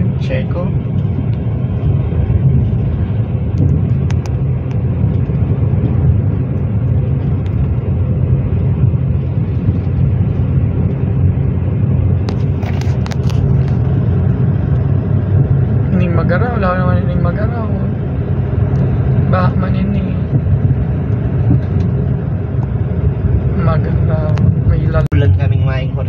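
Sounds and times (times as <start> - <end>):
car interior road noise: 0.0 - 26.0.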